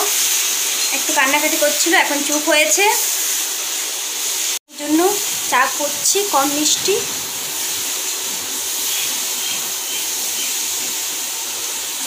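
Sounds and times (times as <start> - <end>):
saucepan water hissing: 0.0 - 12.0.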